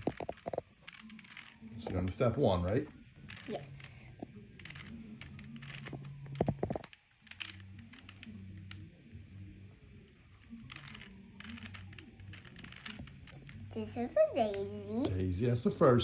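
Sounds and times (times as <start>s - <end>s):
puzzle cube plastic clicks: 0.0s - 8.9s, 10.4s - 14.7s
faint low hum: 0.0s - 16.0s.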